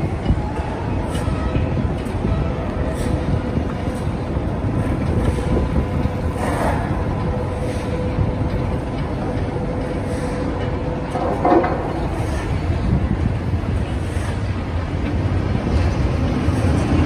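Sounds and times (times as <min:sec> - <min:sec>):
heavy machinery rumbling: 0:00.0 - 0:17.0
machinery whine: 0:00.0 - 0:17.0.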